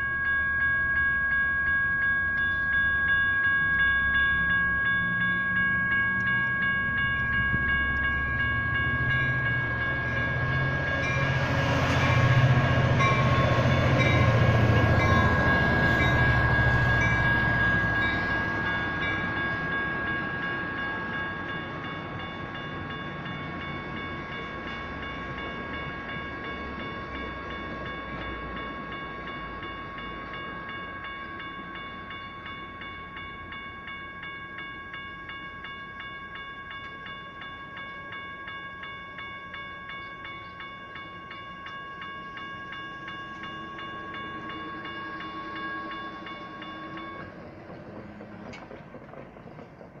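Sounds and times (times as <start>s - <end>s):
railroad crossing bells ringing: 0.0s - 50.0s
train rumbling: 0.0s - 50.0s.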